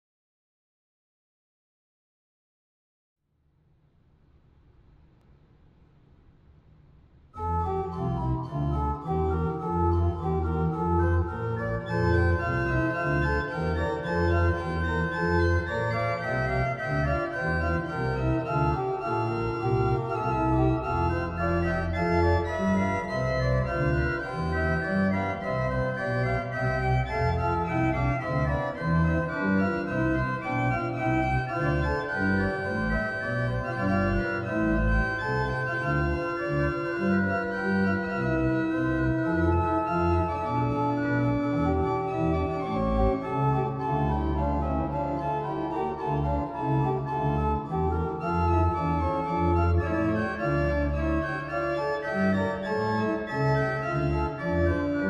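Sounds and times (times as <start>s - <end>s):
organ playing: 7.4s - 55.0s.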